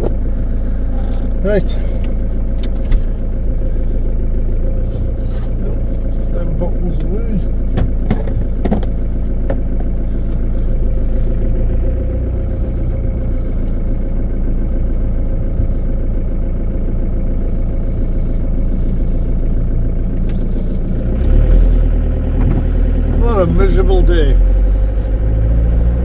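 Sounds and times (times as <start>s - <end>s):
van engine running: 0.0s - 26.0s.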